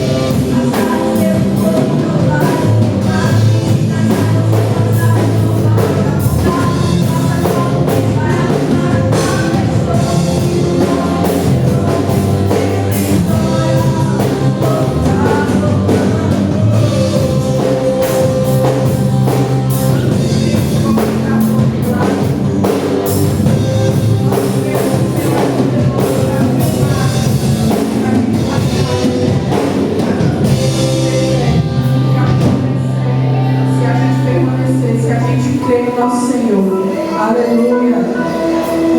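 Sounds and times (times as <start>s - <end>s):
drum kit: 0.0s - 38.9s
gospel singing: 0.0s - 38.9s
guitar: 0.0s - 38.9s.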